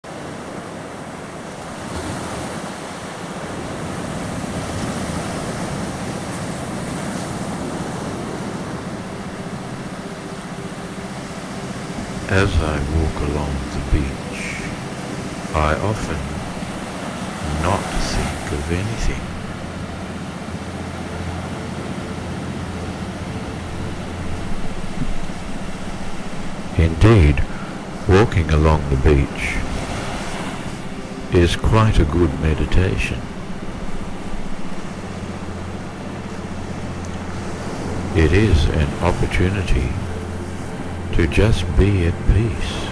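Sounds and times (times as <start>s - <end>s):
ocean waves washing in: 0.0s - 42.9s
faint pulsing tone: 2.7s - 42.9s.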